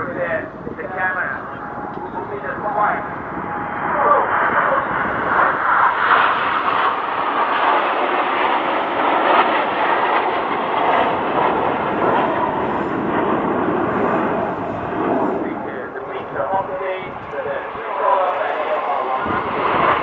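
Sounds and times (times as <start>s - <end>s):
jet aircraft passing overhead: 0.0s - 20.0s.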